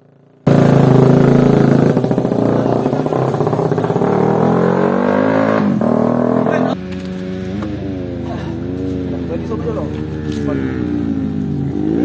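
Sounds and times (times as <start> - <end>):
motocross motorcycle engine: 0.0 - 12.0.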